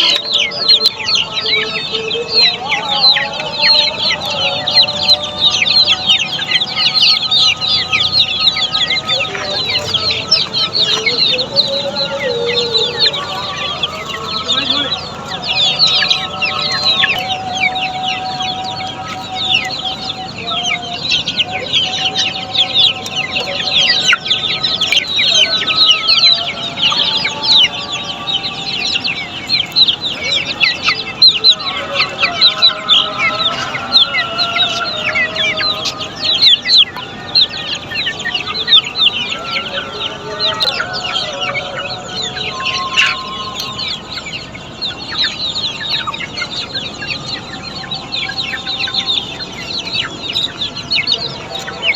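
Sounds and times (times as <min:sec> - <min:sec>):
chicks peeping: 0:00.0 - 0:51.9
grown chickens calling: 0:00.0 - 0:51.9.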